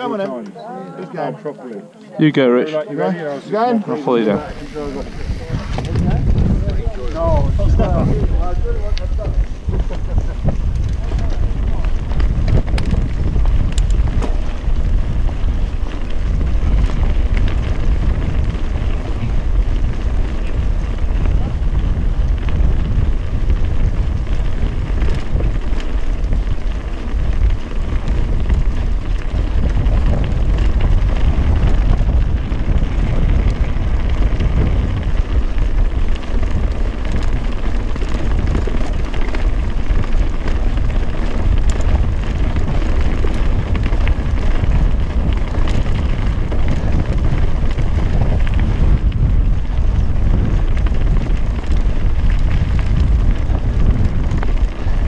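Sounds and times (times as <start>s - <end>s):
wind buffeting microphone: 2.3s - 55.0s
bike tyres crunching over stones: 3.0s - 55.0s.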